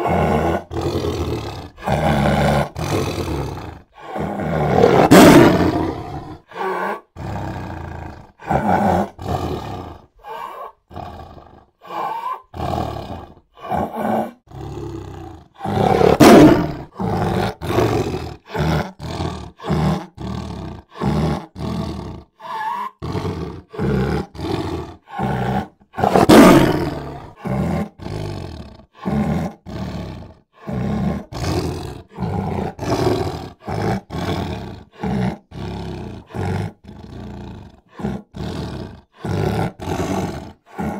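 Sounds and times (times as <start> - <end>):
big cats roaring and snarling: 0.0 - 40.9.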